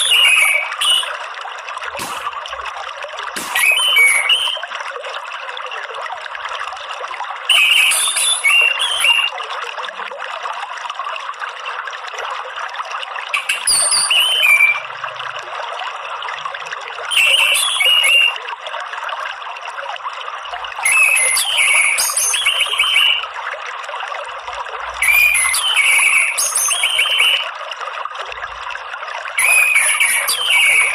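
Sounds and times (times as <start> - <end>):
trickle of running water: 0.0 - 30.9.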